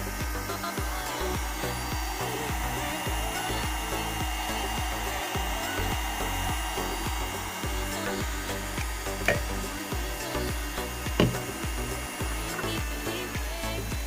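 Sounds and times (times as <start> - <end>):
background music with bass: 0.0 - 14.0
electric nail drill whining: 0.0 - 14.0.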